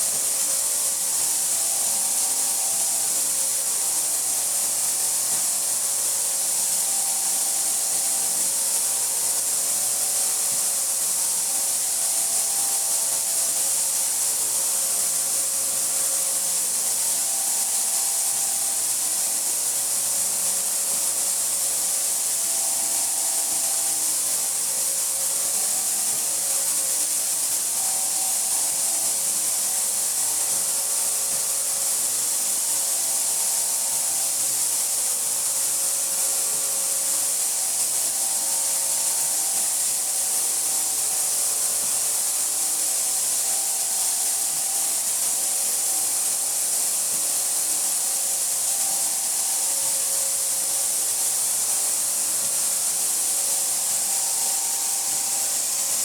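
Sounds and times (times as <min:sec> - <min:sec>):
ultrasonic cleaner hiss: 0:00.0 - 0:56.0.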